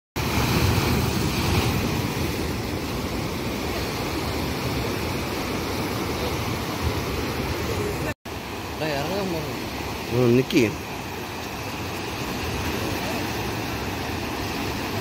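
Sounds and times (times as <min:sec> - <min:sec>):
surf breaking on rocky shore: 0:00.2 - 0:15.0.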